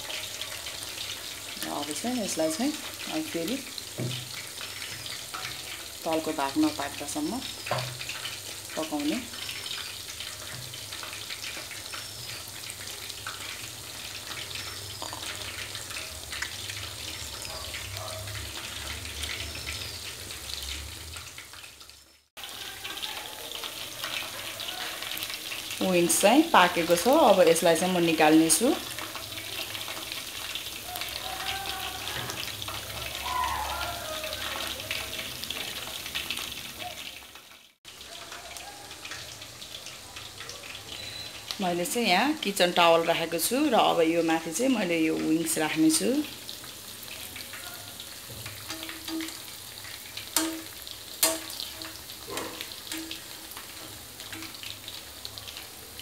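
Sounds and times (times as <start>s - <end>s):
oil sizzling and crackling: 0.0s - 56.0s.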